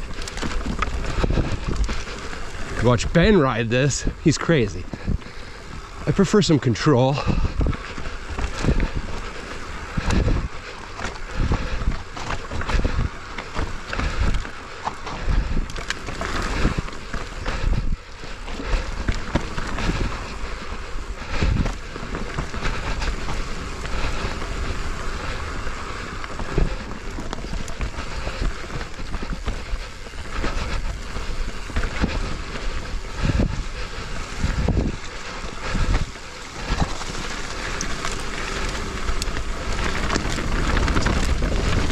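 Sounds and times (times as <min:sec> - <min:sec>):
bike thumps and rattles: 0:00.0 - 0:02.5, 0:07.3 - 0:41.9
wind on microphone: 0:00.0 - 0:06.1, 0:07.2 - 0:41.9
tyres rolling on dirt: 0:00.0 - 0:41.9.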